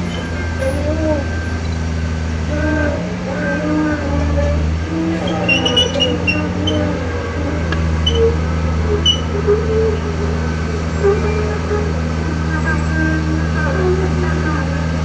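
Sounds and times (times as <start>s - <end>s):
high squeaks: 0.0s - 14.2s
excavator diesel engine running: 0.0s - 15.0s.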